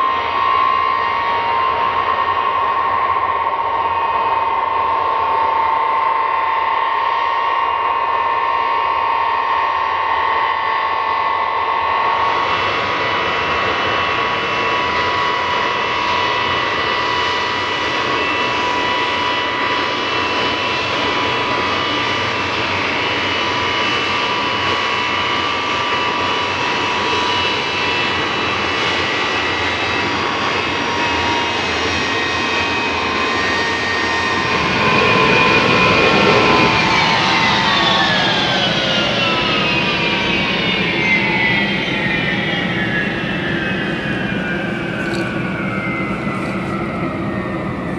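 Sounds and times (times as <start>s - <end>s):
jet engines whining and roaring: 0.0s - 47.9s.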